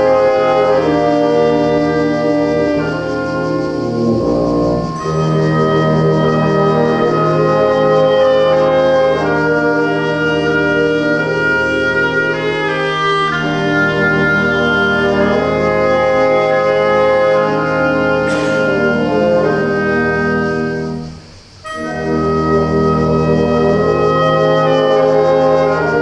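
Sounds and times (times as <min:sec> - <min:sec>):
orchestral music with brass: 0:00.0 - 0:26.0.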